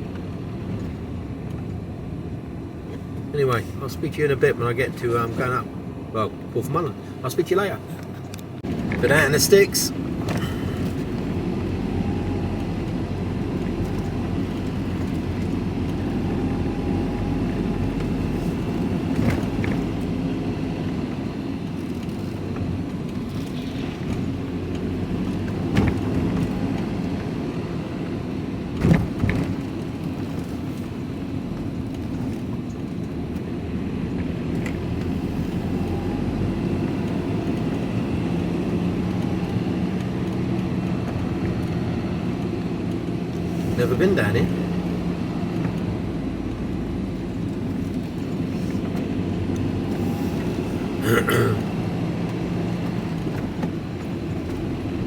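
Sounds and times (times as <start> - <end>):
lorry engine and road noise: 0.0 - 55.0.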